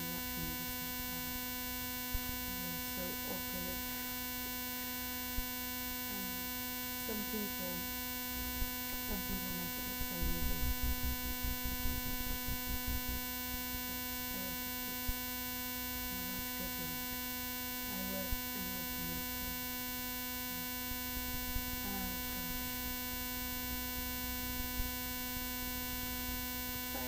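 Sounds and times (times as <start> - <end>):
electronic hum and whistle: 0.0 - 27.0.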